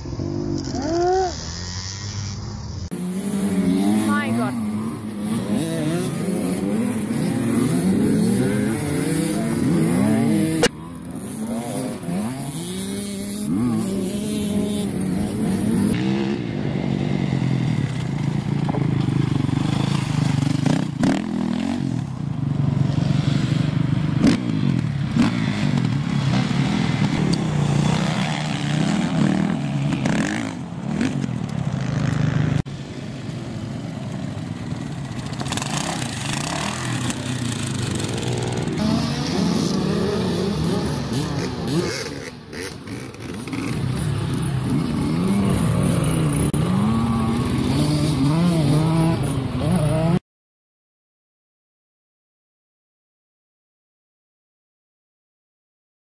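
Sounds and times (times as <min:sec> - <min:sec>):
dirt bike engines revving: 0:00.0 - 0:50.2.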